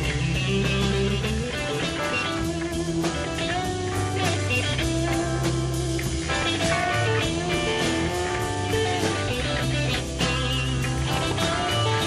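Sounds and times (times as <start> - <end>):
guitar with bent notes: 0.0 - 12.0
rock band instrumental: 0.0 - 12.0.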